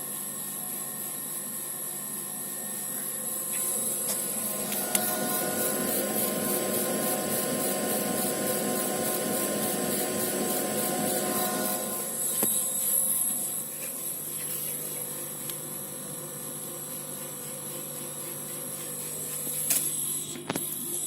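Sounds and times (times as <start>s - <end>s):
laser cutter head whirring: 0.0s - 21.0s
machine humming: 0.5s - 21.0s.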